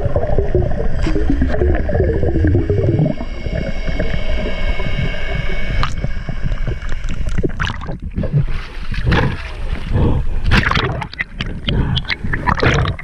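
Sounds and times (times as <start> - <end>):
steady high whine: 0.0 - 10.5
underwater rush of water: 0.0 - 13.0.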